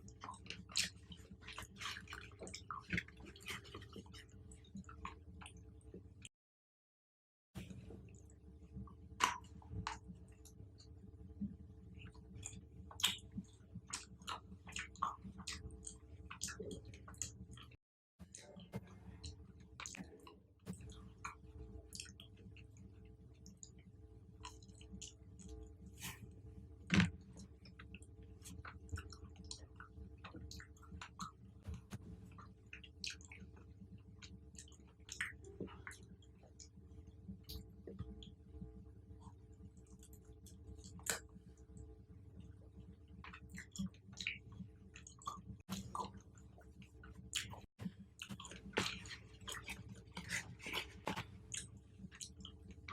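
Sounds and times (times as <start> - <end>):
chewing with crunches: 0.0 - 6.3, 7.6 - 52.9.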